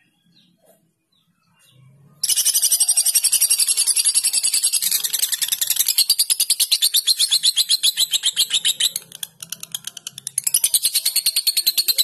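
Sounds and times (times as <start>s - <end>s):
lovebird chattering trill: 2.2s - 12.0s.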